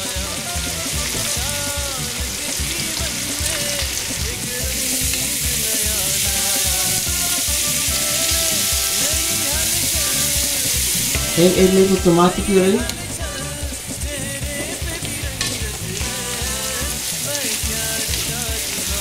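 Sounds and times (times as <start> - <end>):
music with a steady beat: 0.0 - 19.0
vegetables sizzling in a wok: 0.0 - 19.0.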